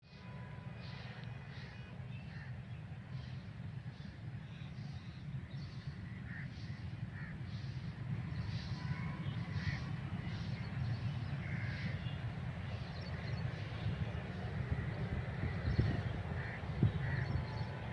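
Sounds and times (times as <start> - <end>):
birds chirping: 0.2 - 17.9
steady low rumble: 2.3 - 17.9.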